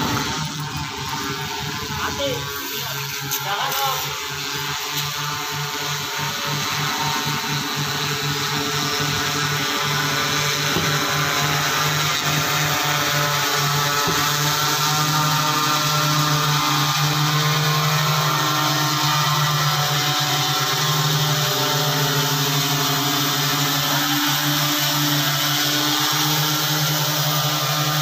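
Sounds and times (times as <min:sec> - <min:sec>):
drone propellers buzzing overhead: 0:00.0 - 0:28.0.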